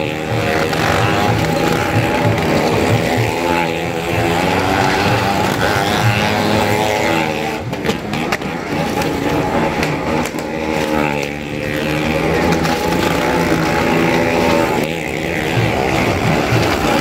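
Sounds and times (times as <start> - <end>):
motorcycle engines circling: 0.0 - 17.0.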